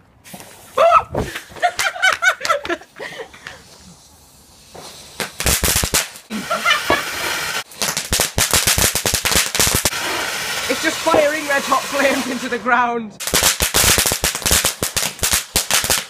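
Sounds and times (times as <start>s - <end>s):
fireworks crackling: 0.2s - 16.0s.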